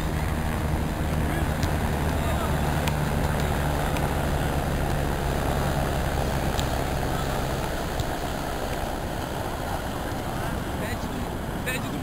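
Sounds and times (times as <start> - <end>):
low engine hum: 0.0 - 12.0
surf: 0.0 - 12.0.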